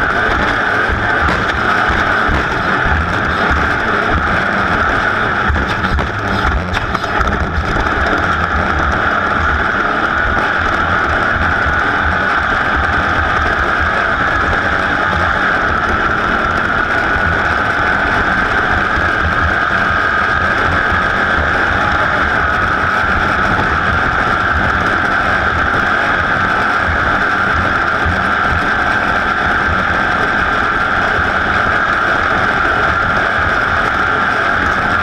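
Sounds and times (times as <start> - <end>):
racing engine running steadily: 0.0 - 35.0.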